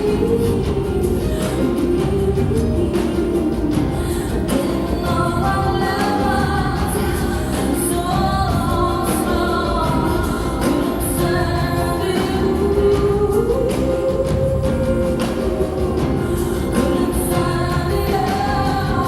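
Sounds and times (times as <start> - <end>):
live band music: 0.0 - 19.0
woman singing: 0.0 - 19.0.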